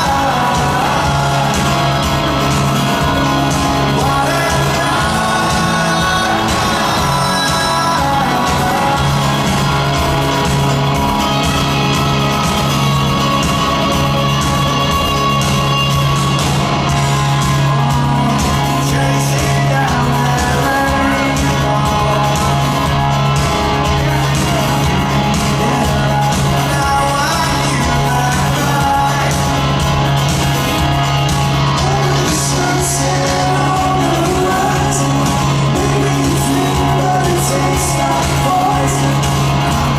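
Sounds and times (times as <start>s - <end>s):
lead vocals singing: 0.0s - 16.4s, 17.0s - 39.9s
drum kit: 0.0s - 39.9s
electric guitars: 0.0s - 39.9s.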